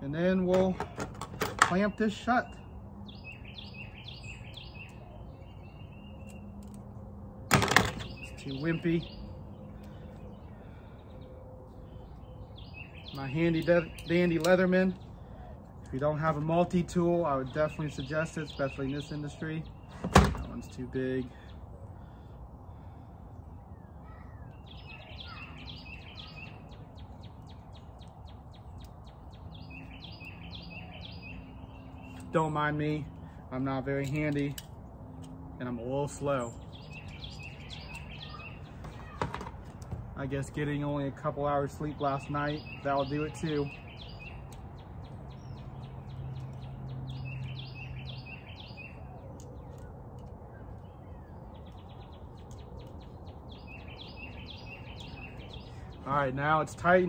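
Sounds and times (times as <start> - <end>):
songbird singing chirps: 0.0 - 57.0.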